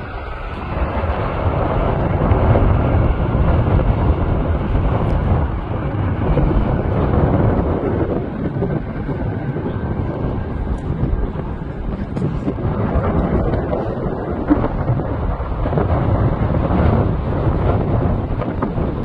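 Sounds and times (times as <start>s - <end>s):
jet engine roar: 0.0s - 19.0s
wind buffeting microphone: 0.0s - 19.0s.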